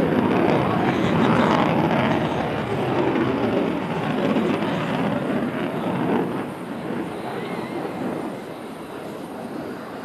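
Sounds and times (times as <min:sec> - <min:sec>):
fighter jet engine roar: 0:00.0 - 0:10.0.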